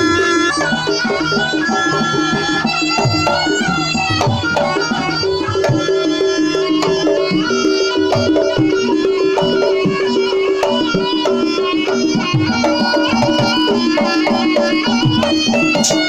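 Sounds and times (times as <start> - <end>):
hand drums beating: 0.0 - 16.0
shawm wailing melody: 0.0 - 16.0.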